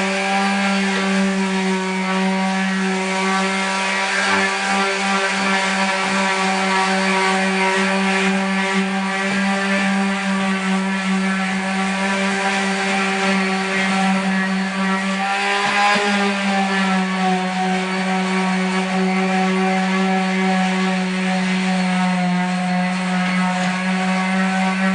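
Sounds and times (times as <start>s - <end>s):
power sander whining: 0.0s - 24.9s.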